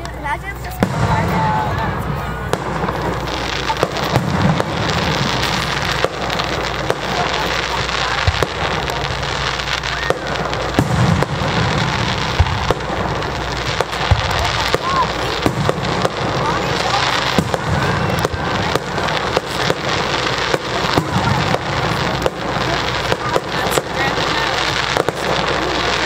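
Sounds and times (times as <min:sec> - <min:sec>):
firework shells bursting: 0:00.0 - 0:26.0.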